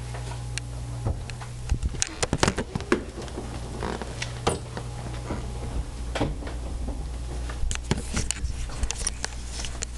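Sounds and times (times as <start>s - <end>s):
low electrical hum: 0.0s - 9.9s.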